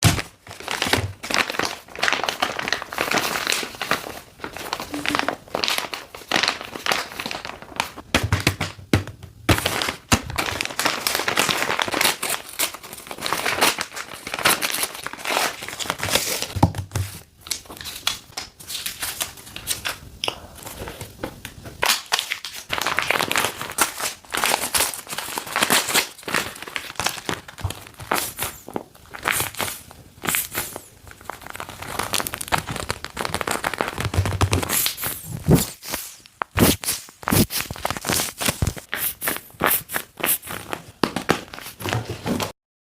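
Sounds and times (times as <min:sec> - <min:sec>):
packaging crinkling and tearing: 0:00.0 - 0:08.1, 0:09.5 - 0:42.5.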